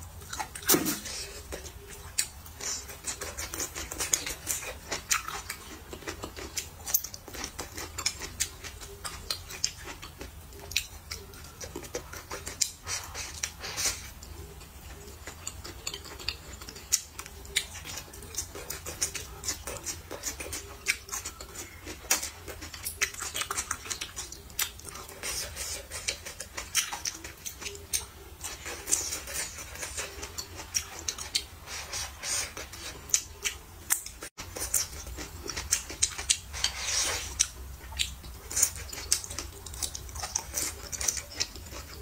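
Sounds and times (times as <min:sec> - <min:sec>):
wet chewing with mouth clicks: 0:00.1 - 0:42.0.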